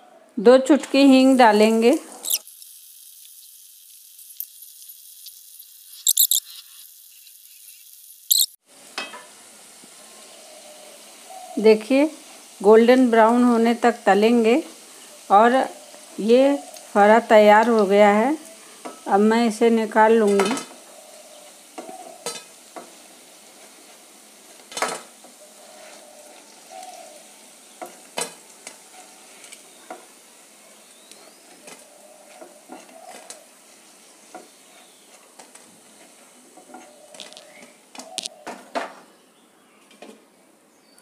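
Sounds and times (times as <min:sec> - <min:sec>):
hot oil sizzling: 0:00.8 - 0:38.5.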